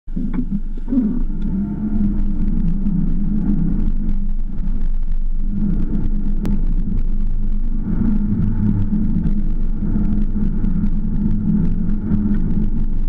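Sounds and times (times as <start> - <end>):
car engine running: 0.1 - 13.0
tyres rumbling on snow: 0.1 - 13.0.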